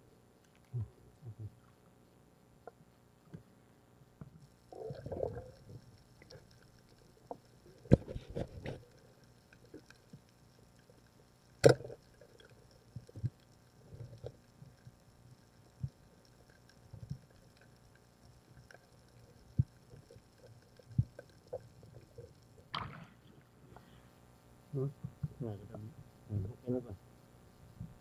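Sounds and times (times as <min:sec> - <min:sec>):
faint underwater clicks and knocks: 0:00.4 - 0:25.4.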